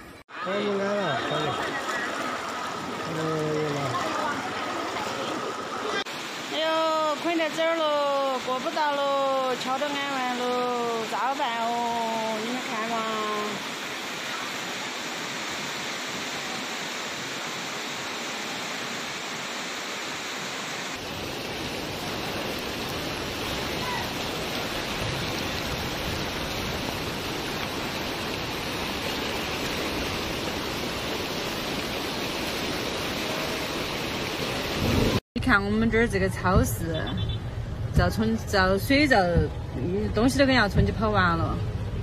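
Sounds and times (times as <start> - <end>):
floodwater rushing: 0.0 - 35.2.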